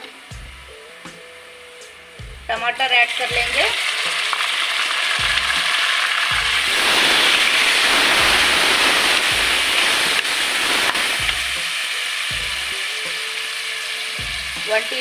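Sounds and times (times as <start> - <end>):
vegetables sizzling in hot oil: 2.5 - 15.0.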